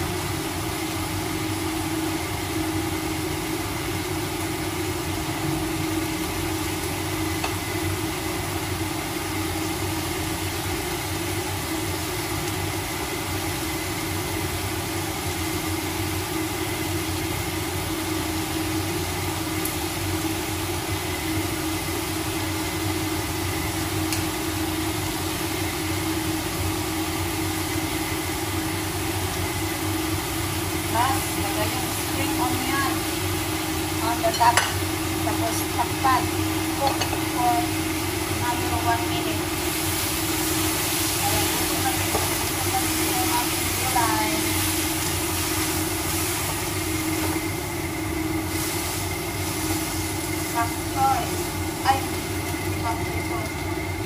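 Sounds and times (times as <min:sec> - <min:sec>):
fan motor humming: 0:00.0 - 0:54.0.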